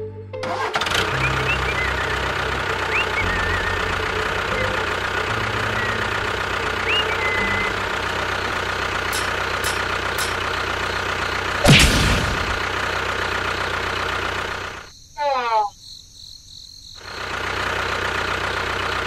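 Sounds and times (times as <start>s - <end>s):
tractor engine running: 0.4s - 14.9s, 17.0s - 19.0s.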